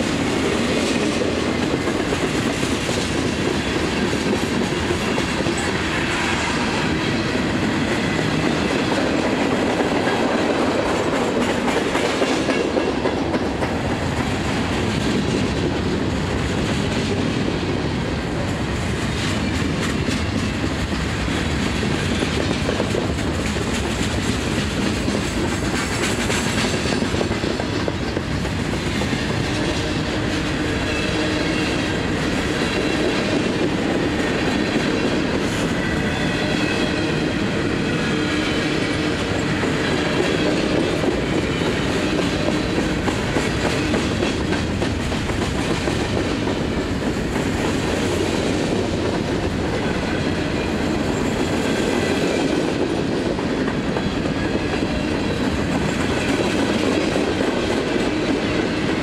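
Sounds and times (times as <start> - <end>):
train wheels clickety-clack on rails: 0.0 - 59.0.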